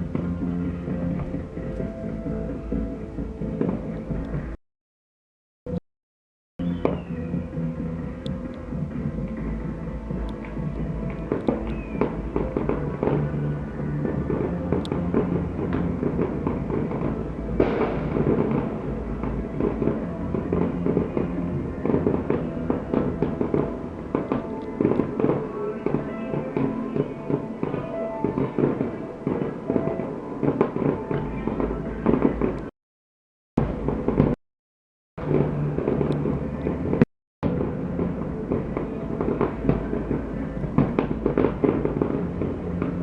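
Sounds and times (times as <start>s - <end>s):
fireworks bangs and crackling: 0.0s - 4.6s, 6.6s - 32.7s, 33.6s - 34.4s, 35.2s - 43.0s.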